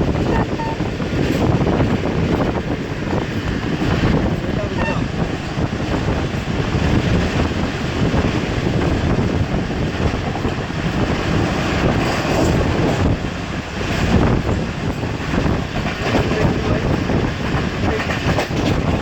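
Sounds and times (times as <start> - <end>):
train wheels rumbling on rails: 0.0 - 19.0
wind noise on microphone: 0.0 - 19.0.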